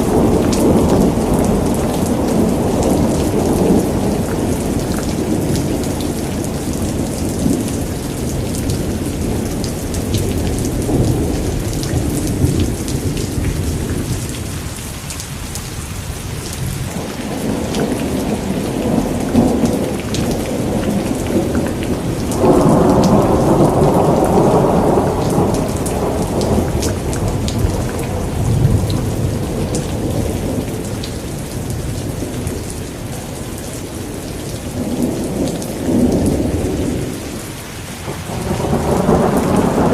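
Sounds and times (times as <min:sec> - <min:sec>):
thunder rumbling: 0:00.0 - 0:14.8, 0:16.4 - 0:39.9
steady rain falling: 0:00.0 - 0:39.9.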